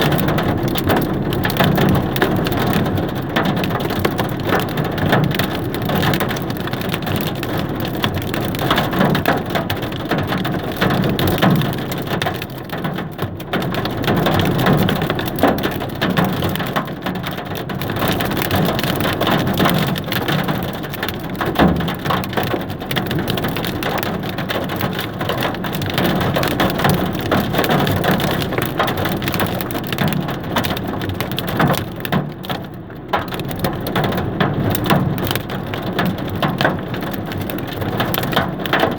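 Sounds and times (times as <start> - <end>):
hail and heavy rain pelting: 0.0 - 38.9.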